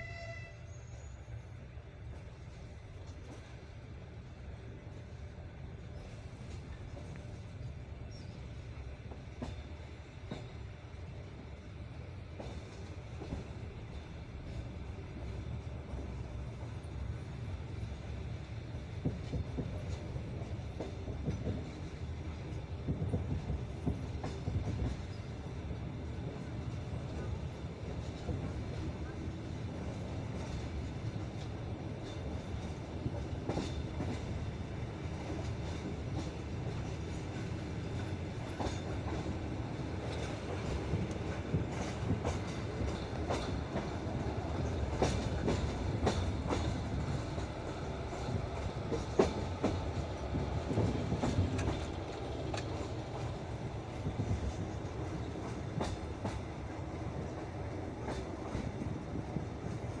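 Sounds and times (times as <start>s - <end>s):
train wheels clacking on track: 2.0s - 60.0s.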